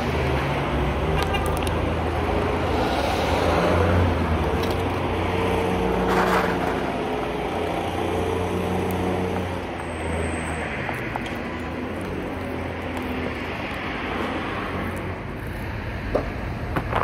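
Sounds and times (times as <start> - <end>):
car passing: 0.0 - 16.9.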